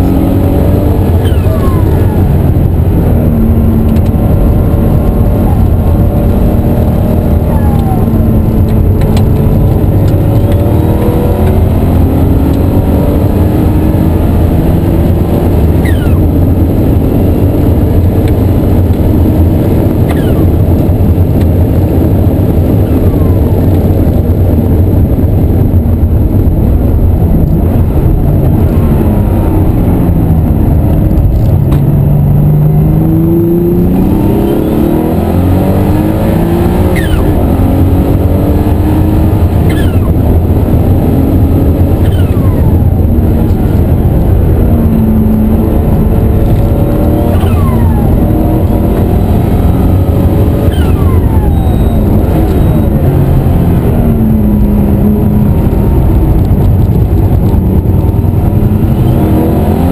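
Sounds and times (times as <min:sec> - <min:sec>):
racing car engine accelerating: 0:00.0 - 0:59.9.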